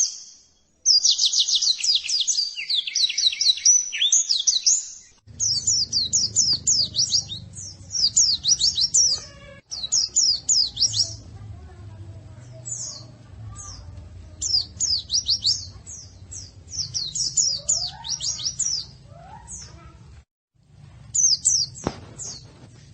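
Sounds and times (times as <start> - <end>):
bird chirping rapidly: 0.0 - 11.4, 12.5 - 19.9, 21.1 - 22.4.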